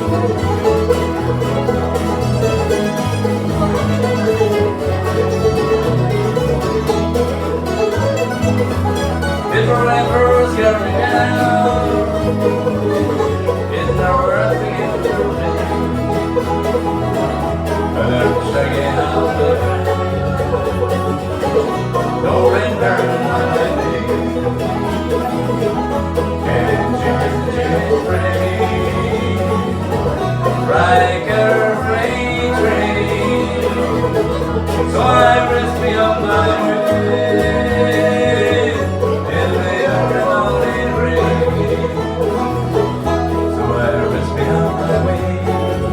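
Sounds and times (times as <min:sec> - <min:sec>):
acoustic band playing: 0:00.0 - 0:45.9
bass line: 0:00.0 - 0:45.9
plucked strings: 0:00.0 - 0:45.9.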